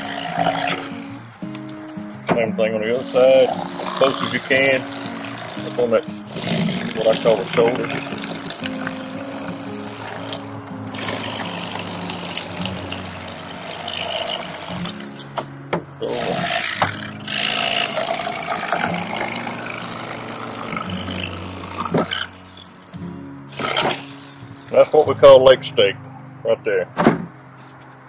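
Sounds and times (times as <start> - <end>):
electric knife motor buzzing: 0.0 - 2.1, 2.9 - 15.4, 16.1 - 22.9, 23.5 - 24.8.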